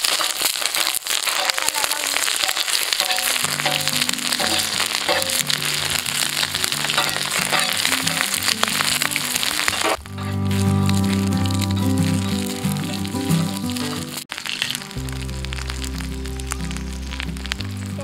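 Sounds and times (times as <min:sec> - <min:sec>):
food sizzling in oil: 0:00.0 - 0:18.0
background music: 0:03.3 - 0:18.0.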